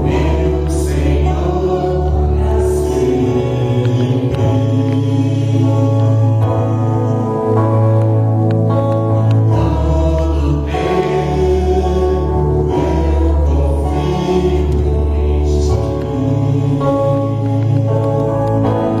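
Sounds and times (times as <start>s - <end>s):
slow church worship music: 0.0s - 19.0s.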